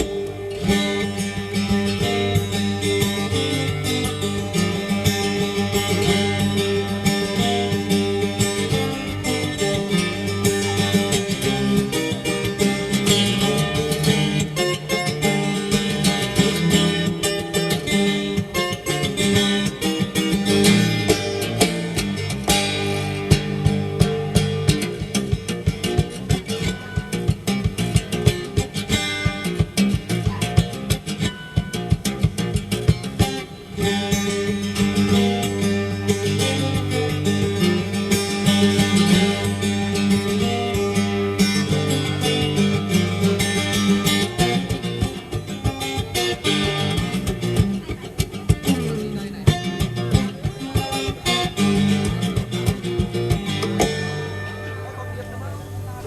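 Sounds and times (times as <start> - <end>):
percussive acoustic guitar: 0.0 - 56.0.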